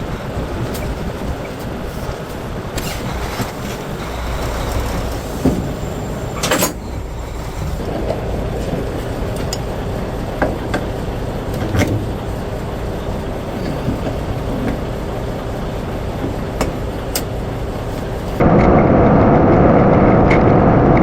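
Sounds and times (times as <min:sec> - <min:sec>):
diesel truck engine rumble: 0:00.0 - 0:21.0.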